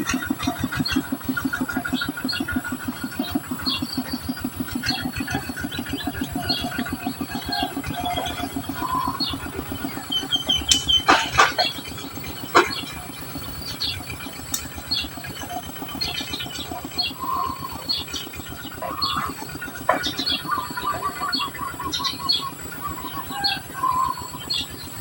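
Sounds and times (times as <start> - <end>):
finches chirping: 0.0 - 25.0
low rapid pulsing: 0.0 - 25.0.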